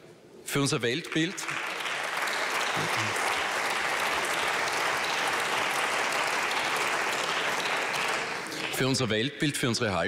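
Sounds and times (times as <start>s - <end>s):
people applauding in a large hall: 0.5s - 9.3s.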